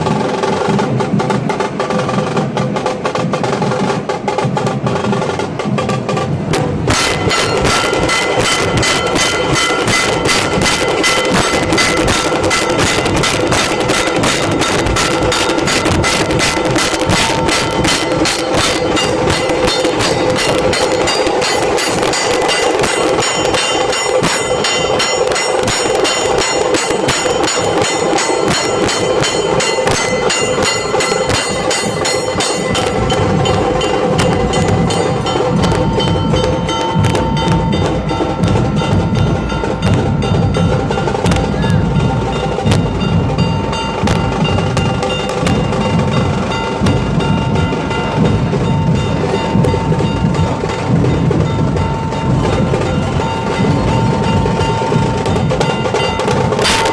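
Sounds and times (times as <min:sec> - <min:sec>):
drums playing fast beat: 0:00.0 - 0:56.9
ringing tones: 0:06.9 - 0:56.9.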